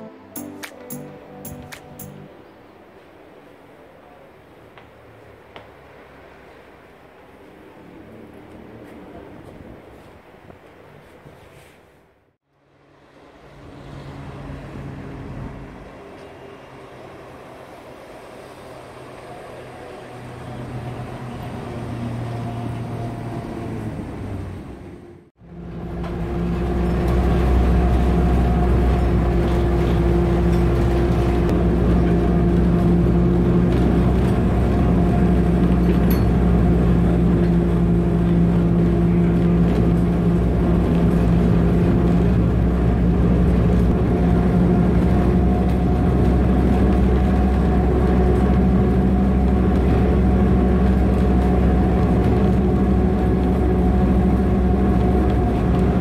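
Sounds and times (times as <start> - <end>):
rack railway car approaching: 0.0 - 10.9, 12.6 - 56.0
railway motor and gearing drone: 0.0 - 56.0.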